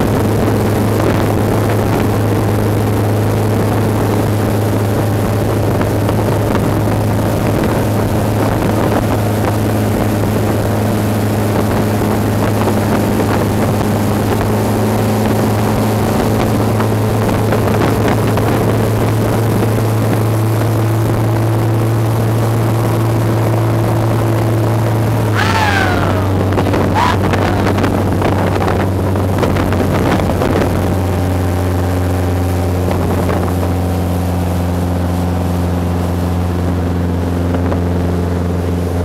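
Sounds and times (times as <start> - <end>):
motorboat engine running: 0.0 - 39.0
wake water rushing: 0.0 - 39.0
wind on microphone: 0.0 - 39.0.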